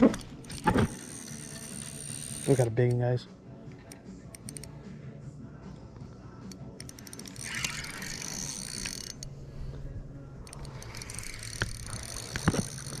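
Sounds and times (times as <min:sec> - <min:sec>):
fishing reel clicking: 0:00.1 - 0:03.0, 0:03.8 - 0:04.8, 0:06.5 - 0:13.0.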